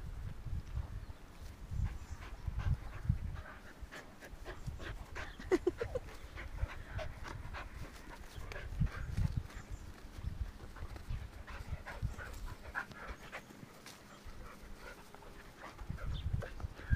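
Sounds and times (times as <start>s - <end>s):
dogs panting: 1.7s - 16.9s.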